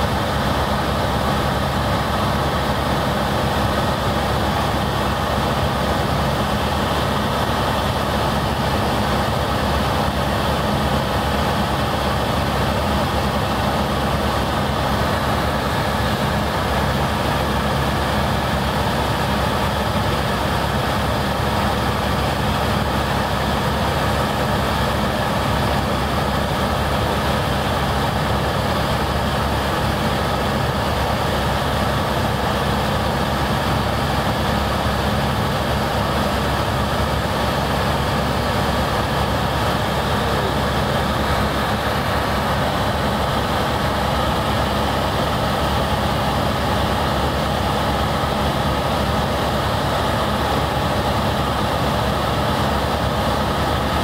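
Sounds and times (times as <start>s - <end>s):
helicopter turbine and rotor drone: 0.0s - 54.0s.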